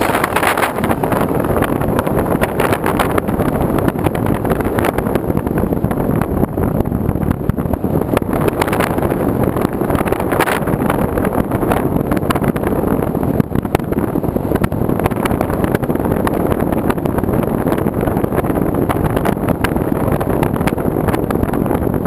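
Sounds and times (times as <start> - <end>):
wind and rain on microphone: 0.0 - 22.0.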